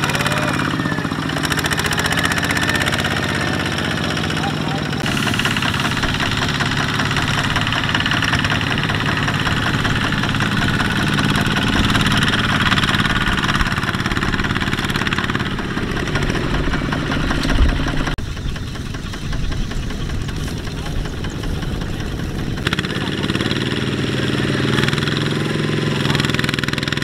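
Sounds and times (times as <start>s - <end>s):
diesel engine chugging: 0.0s - 27.0s.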